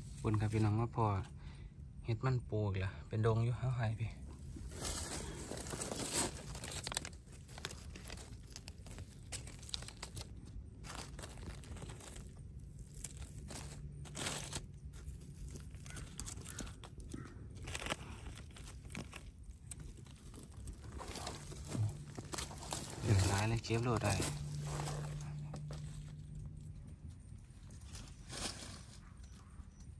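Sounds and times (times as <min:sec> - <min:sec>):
dry leaves crackling and rustling: 0:04.4 - 0:29.6.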